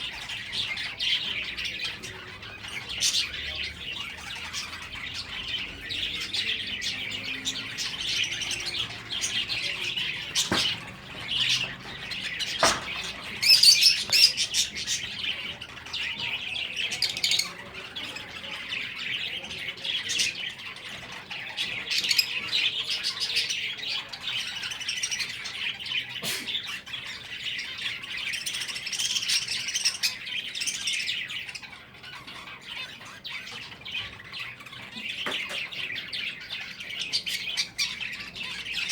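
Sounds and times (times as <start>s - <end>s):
finches chirping and twittering: 0.0s - 38.9s.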